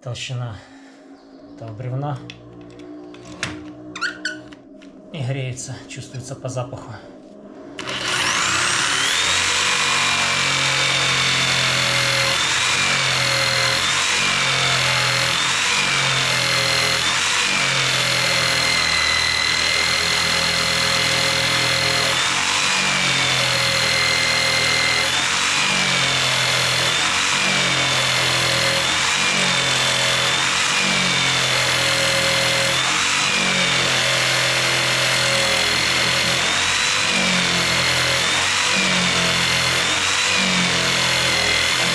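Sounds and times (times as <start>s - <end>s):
electric jigsaw cutting wood: 7.8s - 41.9s.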